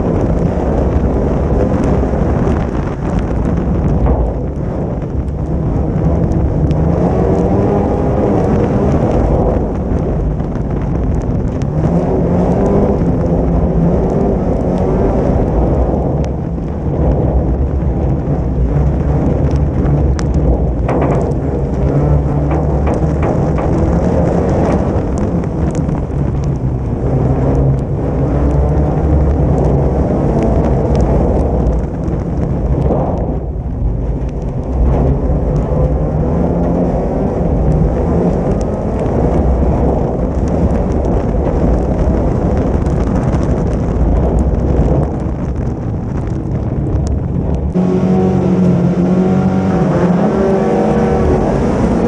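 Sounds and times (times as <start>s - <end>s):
car engine revving: 0.0s - 52.0s
road rumble: 0.0s - 52.0s
wind noise: 0.0s - 52.0s.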